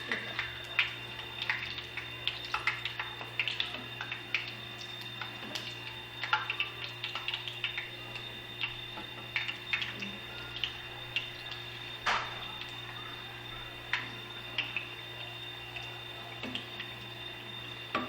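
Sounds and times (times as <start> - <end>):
oil crackling and popping: 0.0 - 18.0
steady low hum: 0.0 - 18.0.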